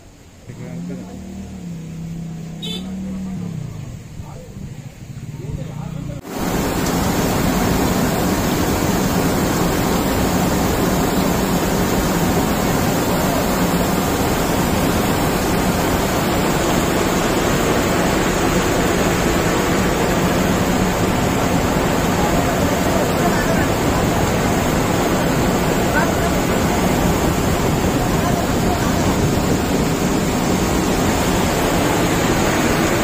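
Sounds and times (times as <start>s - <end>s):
heavy rain falling: 6.2s - 33.0s.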